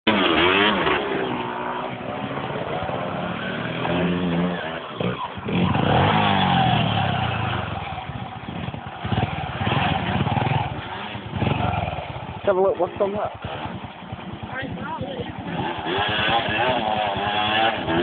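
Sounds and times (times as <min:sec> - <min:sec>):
trail motorbike engine revving: 0:00.1 - 0:18.0.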